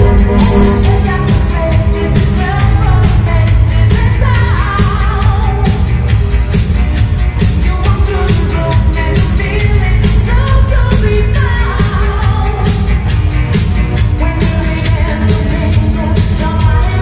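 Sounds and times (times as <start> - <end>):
bass-heavy dance music with singing: 0.0 - 17.0.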